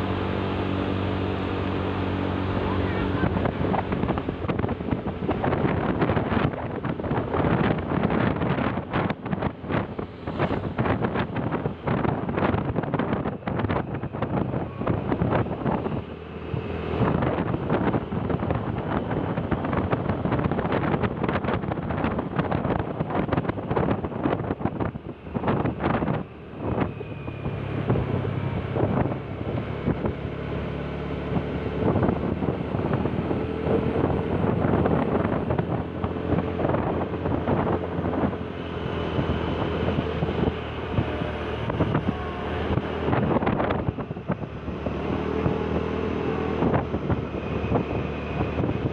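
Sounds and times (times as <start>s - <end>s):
engine hum: 0.0s - 48.9s
road bumps: 0.0s - 48.9s
wind buffeting microphone: 0.0s - 48.9s.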